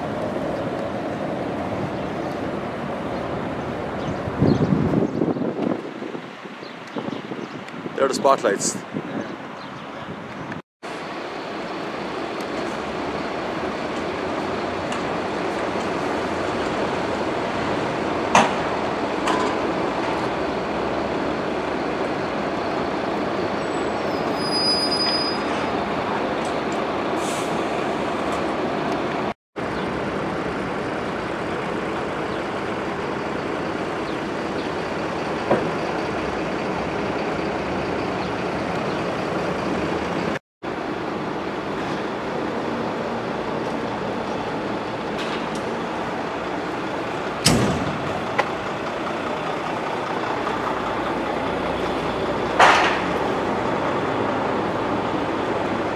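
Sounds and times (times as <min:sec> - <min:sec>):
diesel truck engines running: 0:00.0 - 0:55.9.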